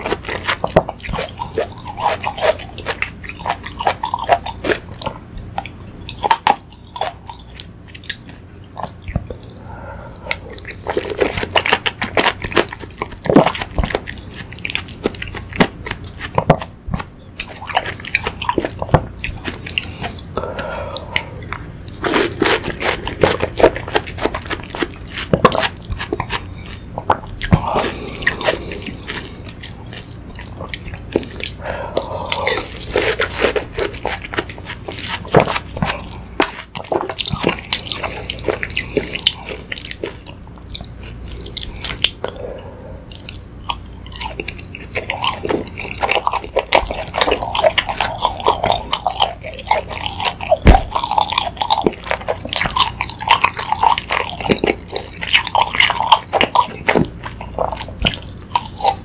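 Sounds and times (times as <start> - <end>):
wet chewing and smacking: 0.0 - 59.0.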